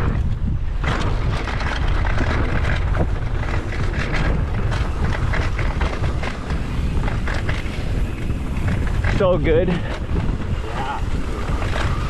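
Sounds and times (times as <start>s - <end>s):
bike knocks and rattles: 0.0s - 12.0s
bike tyres on damp dirt: 0.0s - 12.0s
wind buffeting microphone: 0.0s - 12.0s.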